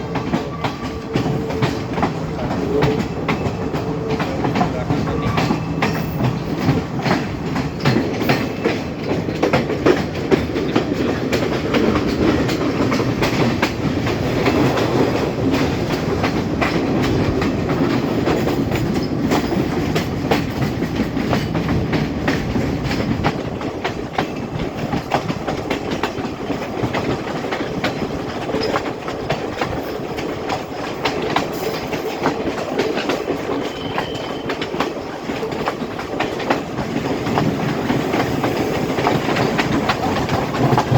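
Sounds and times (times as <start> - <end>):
train rumbling along track: 0.0 - 40.9
wheels clicking over rail joints: 0.0 - 40.9.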